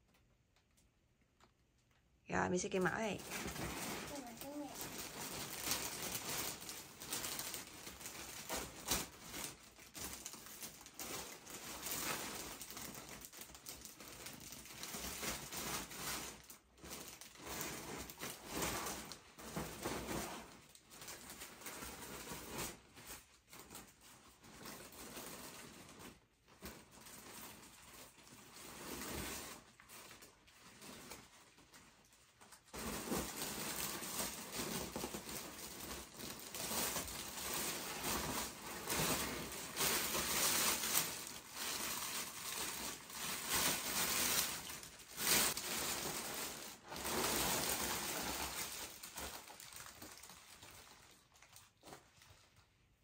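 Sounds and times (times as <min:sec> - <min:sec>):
gift packaging rustling: 0:02.7 - 0:53.0.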